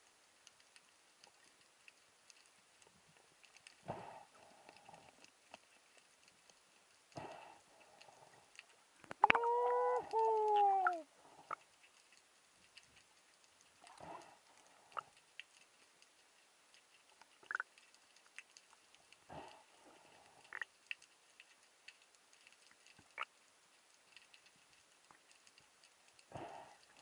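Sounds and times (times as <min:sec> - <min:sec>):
sharp underwater clicks: 0:00.0 - 0:27.0.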